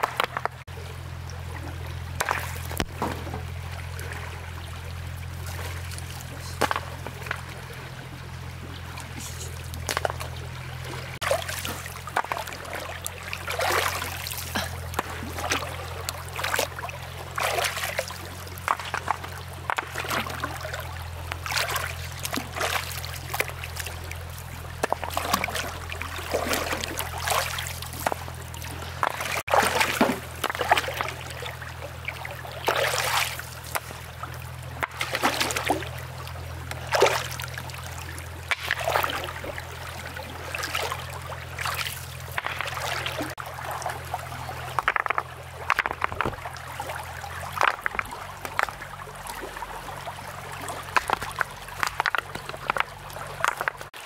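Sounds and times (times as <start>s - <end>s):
water splashing and trickling: 0.0s - 54.0s.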